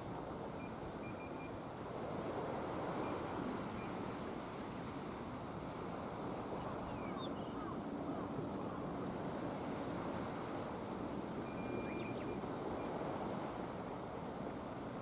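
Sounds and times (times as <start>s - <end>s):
wind: 0.0s - 15.0s
sea wash: 1.6s - 15.0s.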